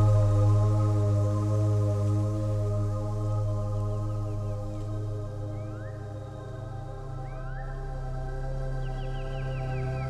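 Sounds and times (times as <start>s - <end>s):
ambient meditation music: 0.0s - 10.0s
deep bass drone: 0.0s - 10.0s.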